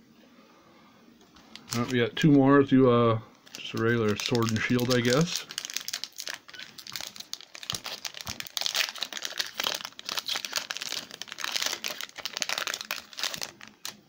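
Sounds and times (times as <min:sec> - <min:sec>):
foil wrapper crinkling and tearing: 0:01.4 - 0:02.4, 0:03.4 - 0:14.0.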